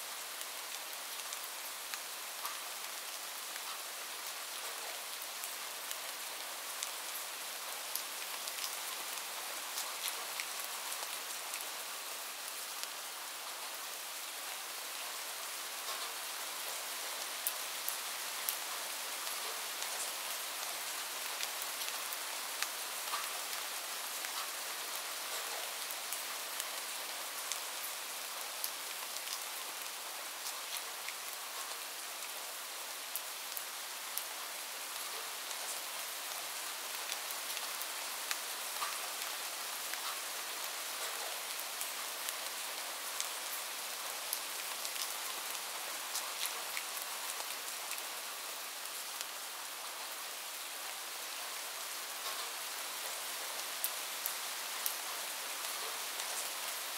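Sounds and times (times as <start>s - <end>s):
light rain hiss: 0.0s - 56.9s.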